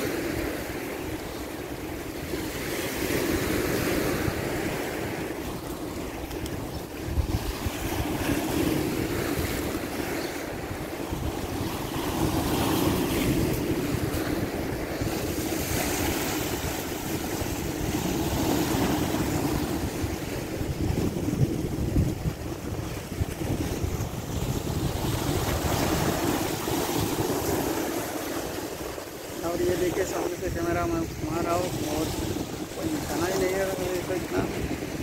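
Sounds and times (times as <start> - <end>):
strong wind on microphone: 0.0 - 35.0.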